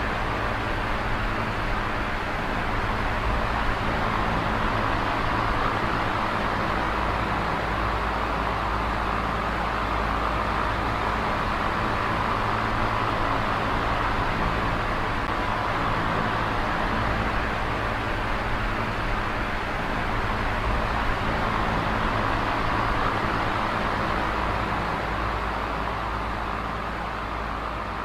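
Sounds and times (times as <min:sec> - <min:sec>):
electric fan running: 0:00.0 - 0:28.0.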